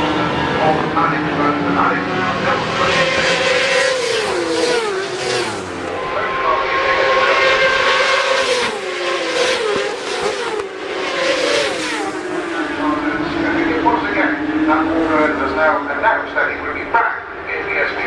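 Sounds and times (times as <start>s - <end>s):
racing motorcycles passing by: 0.0s - 18.0s.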